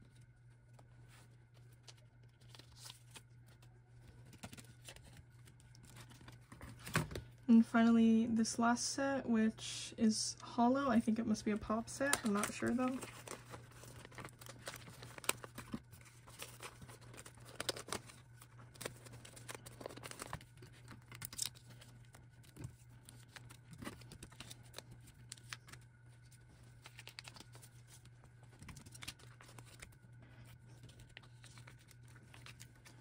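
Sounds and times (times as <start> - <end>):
plastic sleeves rustling: 0.0 - 7.4, 10.8 - 33.0
low steady hum: 0.0 - 33.0.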